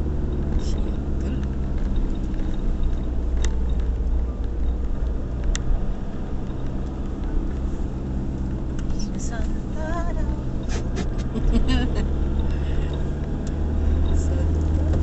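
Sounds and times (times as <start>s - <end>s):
car engine and road rumble: 0.0s - 15.0s
tyres on wet road: 0.0s - 15.0s.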